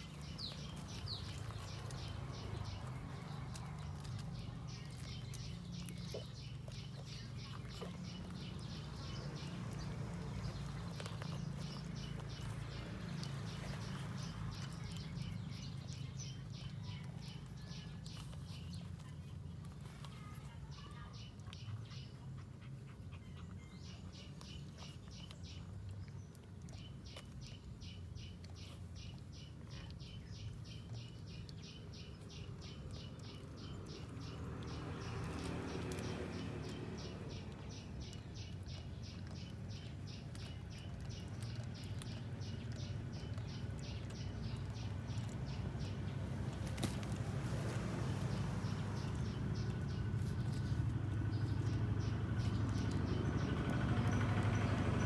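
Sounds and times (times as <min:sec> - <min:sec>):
low steady rumble: 0:00.0 - 0:55.0.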